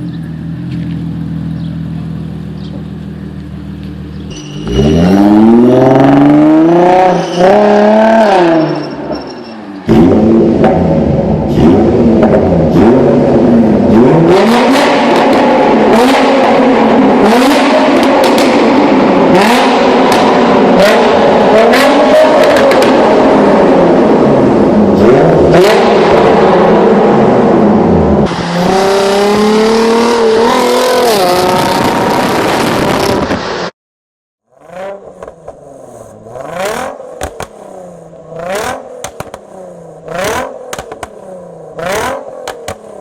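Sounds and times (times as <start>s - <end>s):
car engine revving hard: 4.6s - 8.8s, 9.9s - 33.2s, 34.6s - 43.0s.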